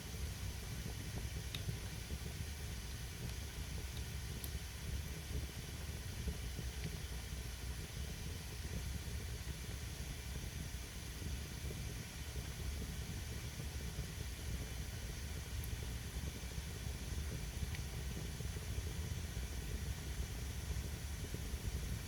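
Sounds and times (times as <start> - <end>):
steam hissing from burning wood: 0.0 - 22.0.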